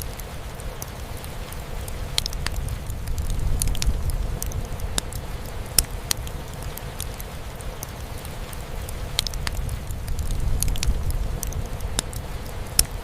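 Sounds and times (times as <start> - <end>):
rain on a roof: 0.0 - 13.0
wood fire crackling and popping: 0.0 - 13.0.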